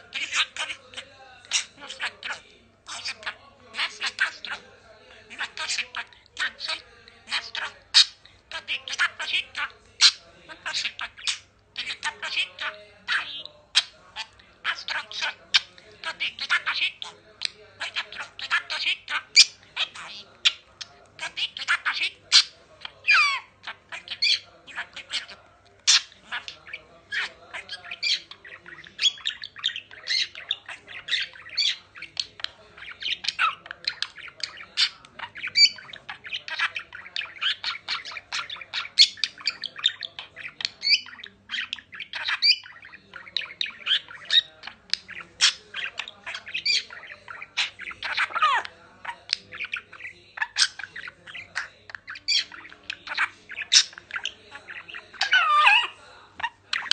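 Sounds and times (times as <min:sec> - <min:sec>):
parrots chirping and squawking: 0:00.0 - 0:56.9.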